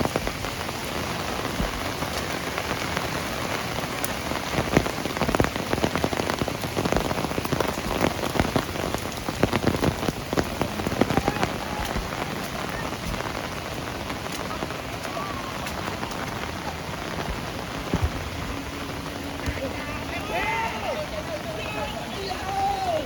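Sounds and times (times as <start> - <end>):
heavy rain: 0.0 - 23.0
raindrops pattering: 0.0 - 23.0.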